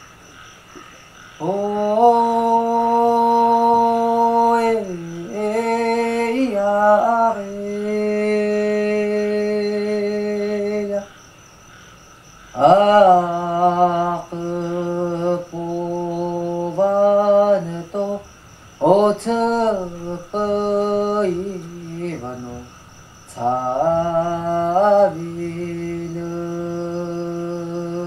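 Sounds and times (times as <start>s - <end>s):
person singing long held notes: 1.4s - 11.1s, 12.6s - 18.2s, 18.8s - 22.7s, 23.3s - 28.0s.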